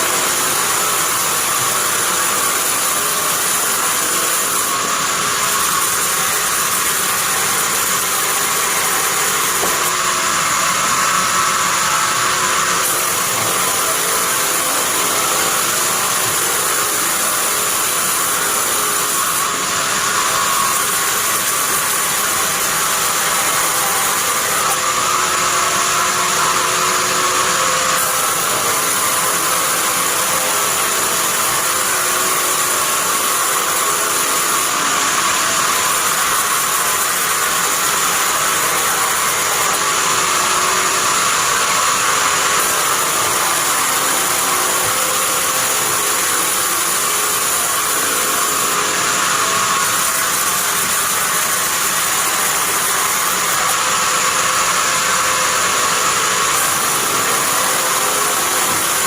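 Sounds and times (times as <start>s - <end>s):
bandsaw running: 0.0s - 59.0s.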